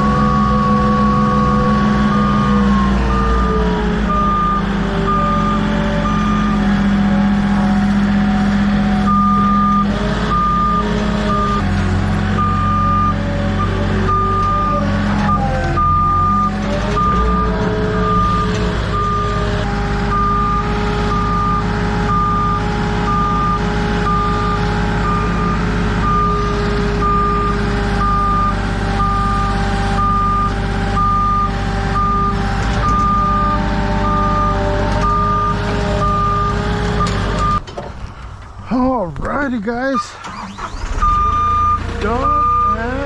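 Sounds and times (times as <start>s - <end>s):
reversing alarm beeping: 0.0s - 11.7s, 12.4s - 37.6s, 40.0s - 43.0s
forklift engine running: 0.0s - 43.0s.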